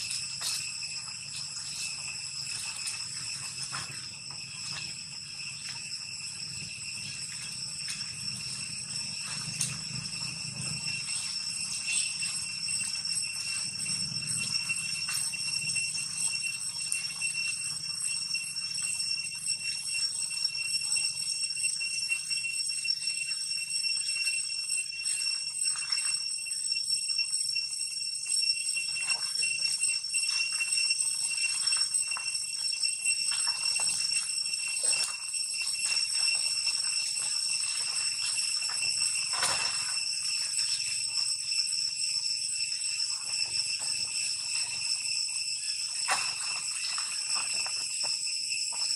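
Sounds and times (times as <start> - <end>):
cicadas droning: 0.0 - 48.9.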